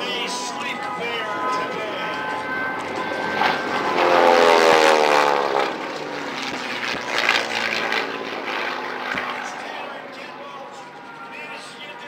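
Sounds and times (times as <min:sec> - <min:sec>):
propeller plane passing: 0:00.0 - 0:12.0.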